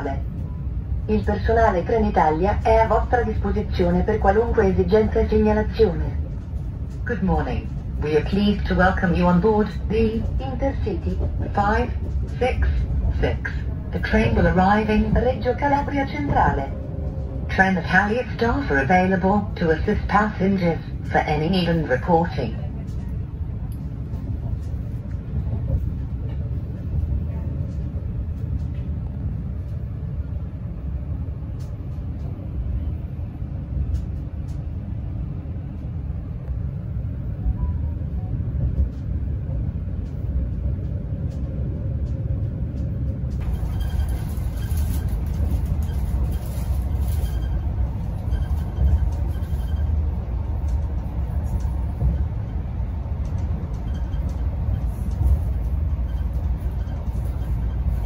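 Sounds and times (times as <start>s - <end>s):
train wheels on rails: 1.2s - 36.9s, 38.4s - 58.0s.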